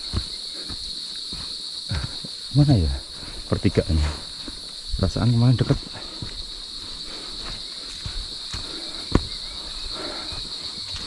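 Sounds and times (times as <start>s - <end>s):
footsteps on trail: 0.0s - 11.0s
high-pitched insect drone: 0.0s - 11.0s.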